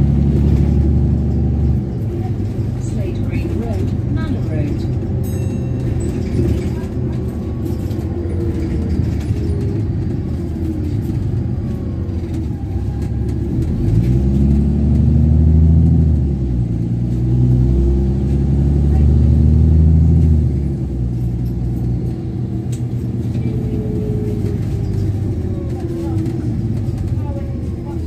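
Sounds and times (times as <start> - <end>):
bus engine and loud exhaust: 0.0 - 28.0.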